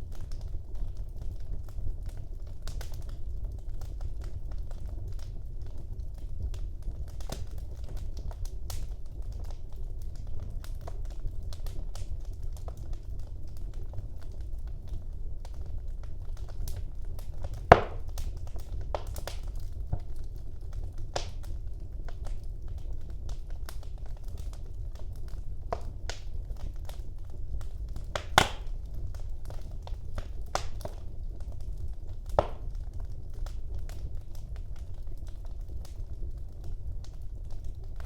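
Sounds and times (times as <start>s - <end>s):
fire crackles and pops: 0.0s - 38.0s
low rumble of flames: 0.0s - 38.0s.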